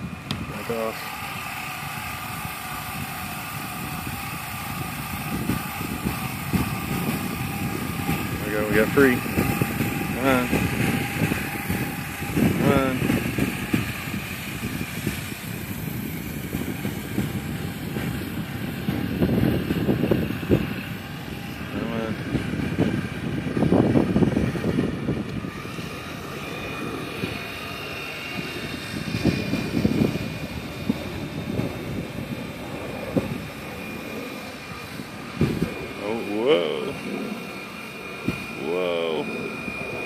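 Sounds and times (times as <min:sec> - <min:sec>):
faint high whine: 0:00.0 - 0:40.0
wind buffeting microphone: 0:00.0 - 0:40.0.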